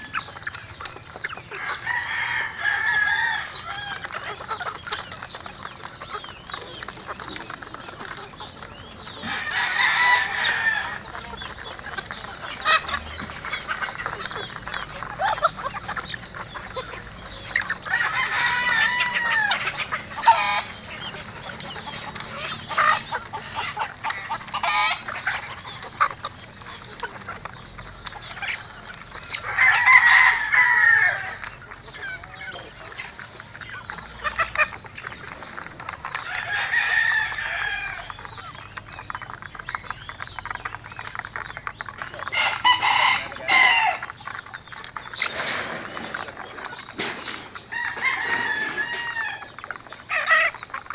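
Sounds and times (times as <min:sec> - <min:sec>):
chickens calling: 0:00.0 - 0:50.9.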